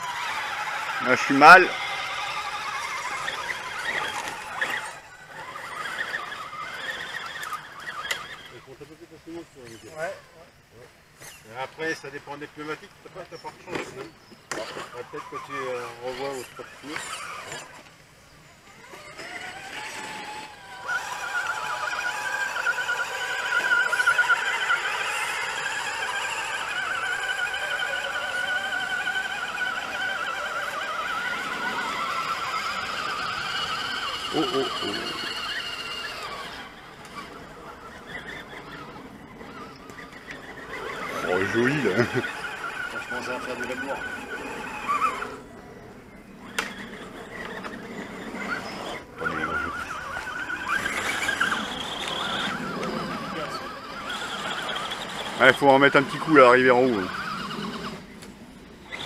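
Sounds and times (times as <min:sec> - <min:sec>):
electric motor whine: 0:00.0 - 0:10.1, 0:11.3 - 0:59.0.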